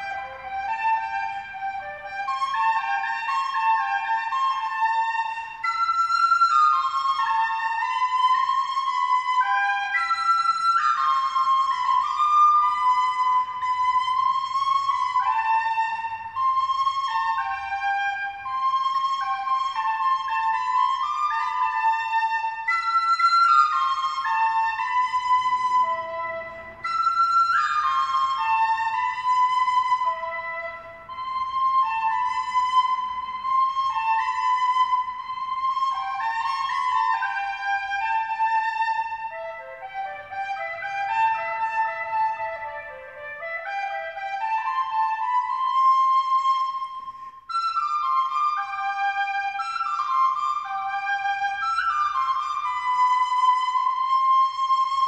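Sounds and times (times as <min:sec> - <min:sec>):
flute-like melody: 0:00.0 - 0:55.0.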